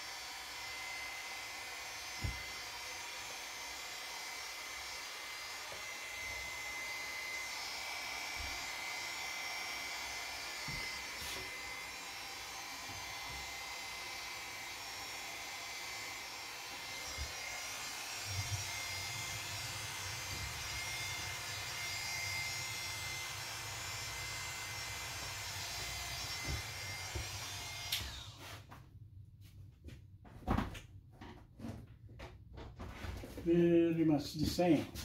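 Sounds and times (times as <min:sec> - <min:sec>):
electric hair clipper running: 0:00.0 - 0:28.5.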